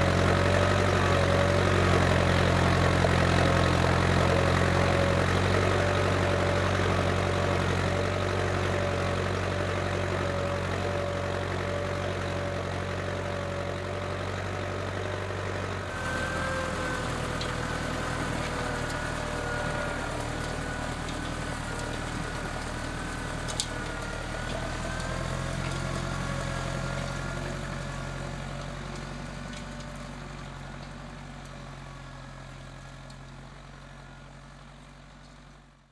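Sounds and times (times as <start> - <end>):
tractor diesel engine running: 0.0 - 35.8.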